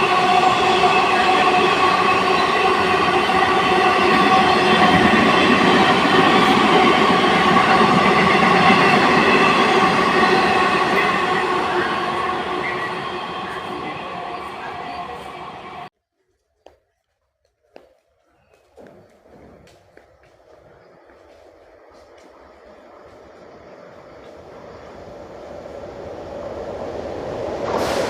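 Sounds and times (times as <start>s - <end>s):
train wheels rushing on rails: 0.0s - 15.9s, 18.8s - 28.0s.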